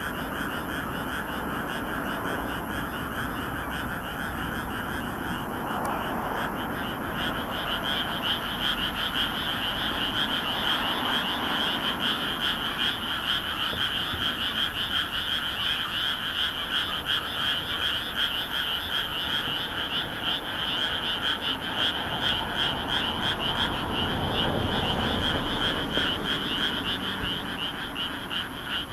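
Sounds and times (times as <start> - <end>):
frogs croaking in chorus: 0.0 - 28.9.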